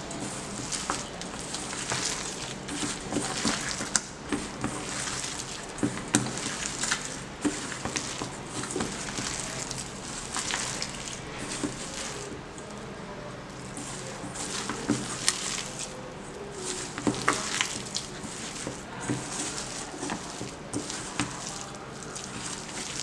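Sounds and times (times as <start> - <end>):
batter squishing by hand: 0.0 - 23.0.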